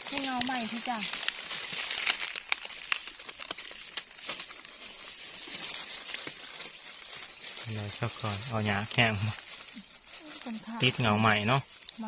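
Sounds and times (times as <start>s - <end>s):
dry leaves crackling and rustling: 0.0s - 12.0s.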